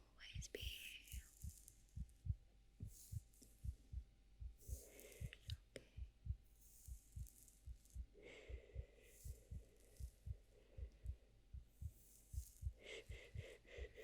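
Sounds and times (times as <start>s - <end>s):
slow heartbeat: 0.1s - 14.0s.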